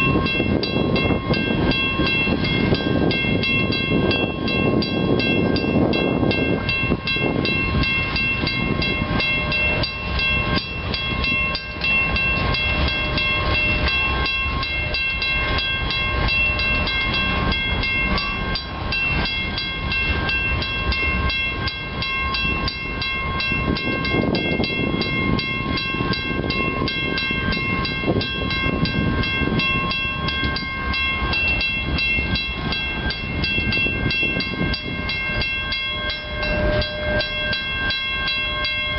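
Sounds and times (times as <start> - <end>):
crossing bell ringing: 0.0 - 38.9
train wheels rumbling on rail: 0.0 - 38.9.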